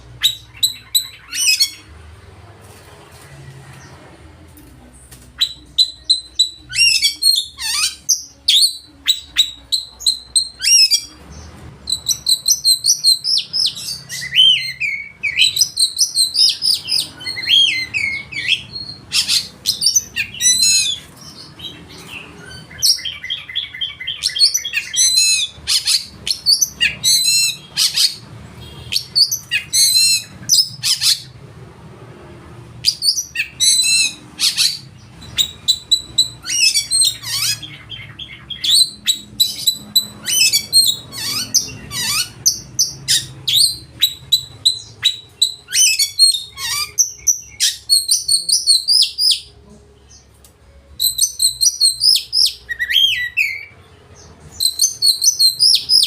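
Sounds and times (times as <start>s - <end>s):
songbird whistling and chattering: 0.2s - 1.9s, 5.4s - 11.2s, 11.8s - 31.3s, 32.8s - 49.5s, 51.0s - 53.8s, 54.5s - 56.0s.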